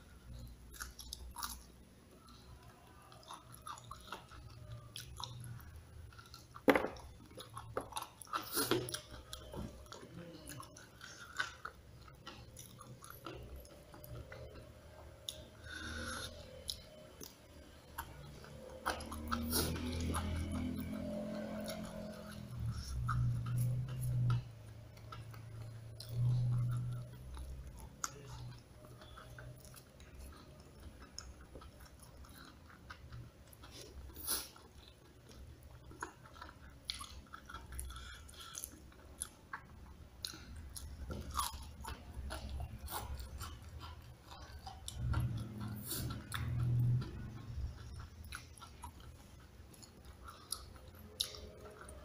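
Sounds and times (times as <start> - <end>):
person chewing crispy food: 0.2 - 52.0.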